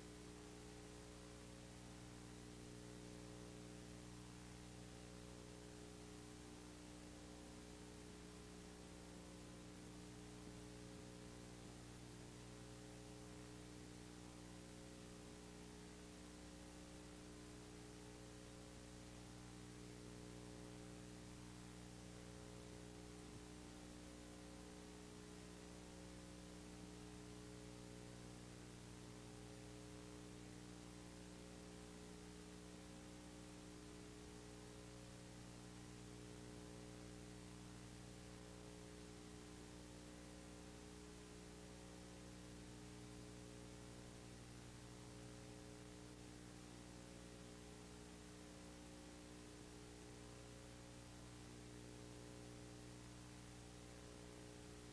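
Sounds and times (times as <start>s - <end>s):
faint hiss: 0.0s - 54.9s
low electrical hum: 0.0s - 54.9s.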